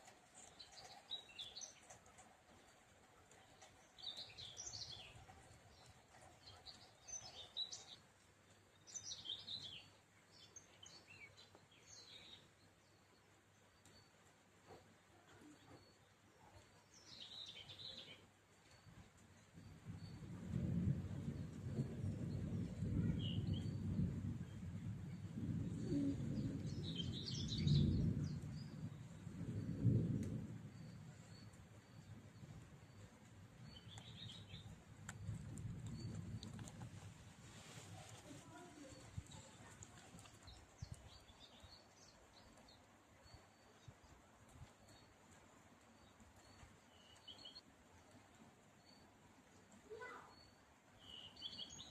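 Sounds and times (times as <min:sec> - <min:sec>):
faint outdoor background hum: 0:00.0 - 0:51.9
faint songbirds chirping: 0:00.0 - 0:51.9.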